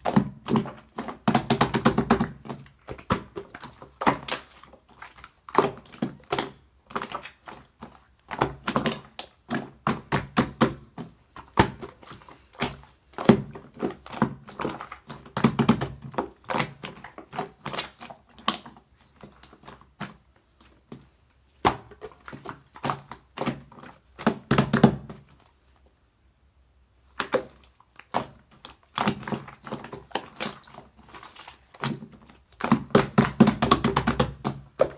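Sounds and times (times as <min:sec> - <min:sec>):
hands squishing slime: 0:00.0 - 0:25.9, 0:27.0 - 0:34.9.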